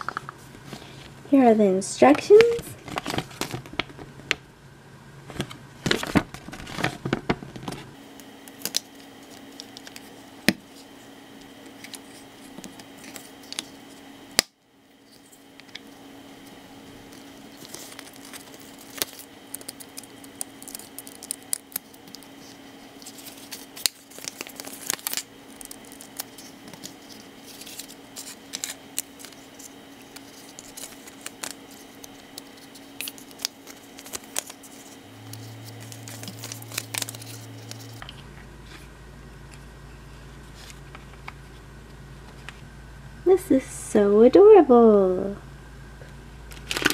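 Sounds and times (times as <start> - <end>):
low background hum: 0.0 - 46.9.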